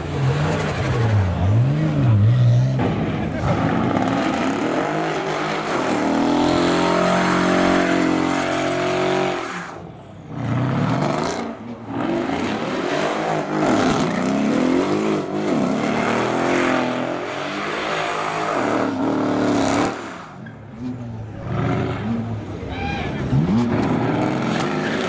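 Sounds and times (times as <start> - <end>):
car engine revving: 0.0 - 22.6, 23.2 - 25.0.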